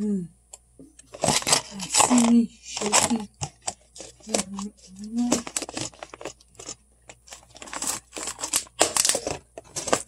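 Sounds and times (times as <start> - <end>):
things handled on counter: 1.0 - 10.0.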